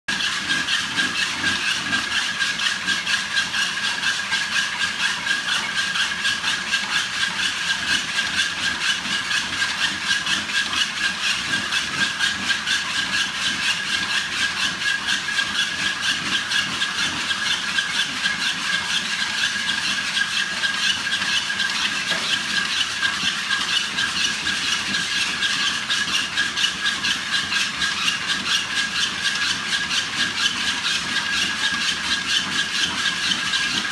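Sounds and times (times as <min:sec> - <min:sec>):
dog paws on treadmill belts: 0:00.1 - 0:33.9
treadmill motors whining: 0:00.1 - 0:33.9.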